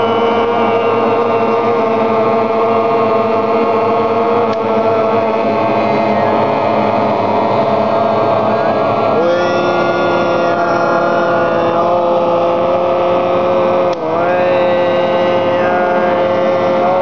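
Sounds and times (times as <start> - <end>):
drone of held musical notes: 0.0 - 17.0.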